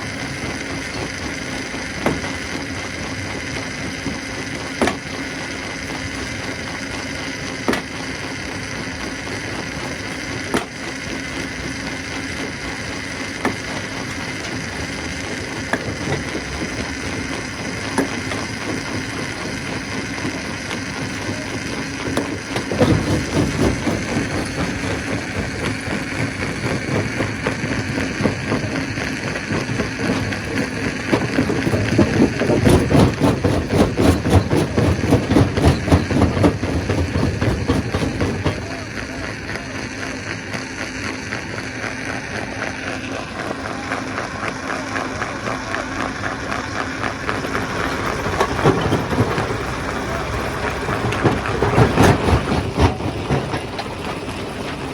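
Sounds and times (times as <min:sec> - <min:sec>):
rough rumble with rapid knocking: 0:00.0 - 0:54.9
stone crusher humming: 0:00.0 - 0:54.9.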